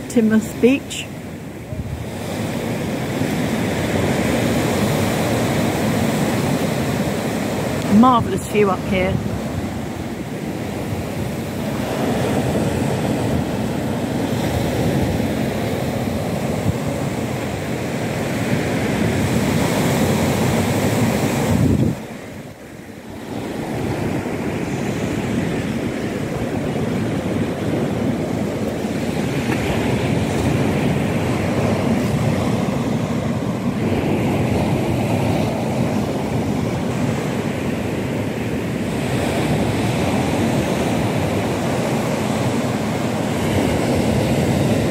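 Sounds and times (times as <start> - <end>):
sea waves breaking on beach: 0.0 - 44.9
wind on microphone: 0.0 - 44.9.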